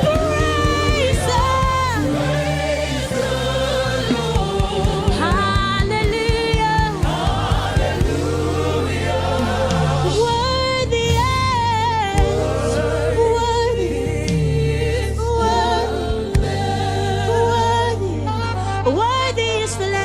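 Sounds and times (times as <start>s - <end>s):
choir singing held notes: 0.0s - 11.3s, 12.1s - 18.8s
low instrumental accompaniment: 0.0s - 20.0s.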